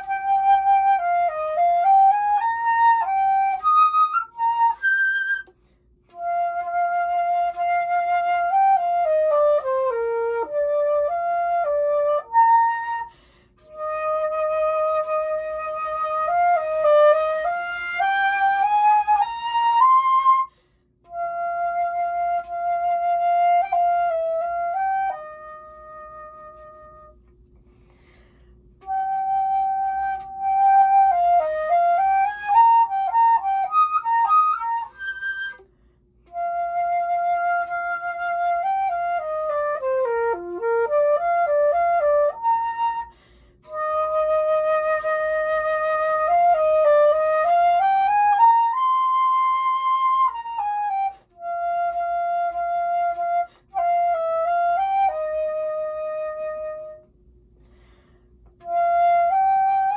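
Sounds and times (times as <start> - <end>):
solo flute melody: 0.0 - 59.9.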